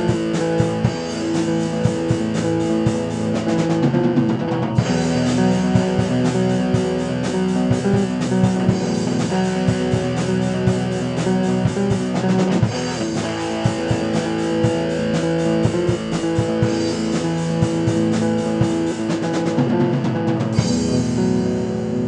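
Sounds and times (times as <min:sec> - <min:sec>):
black metal music: 0:00.0 - 0:22.0.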